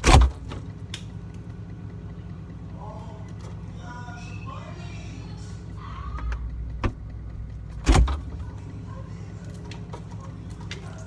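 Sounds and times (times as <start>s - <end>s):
fridge hum: 0.0s - 11.0s.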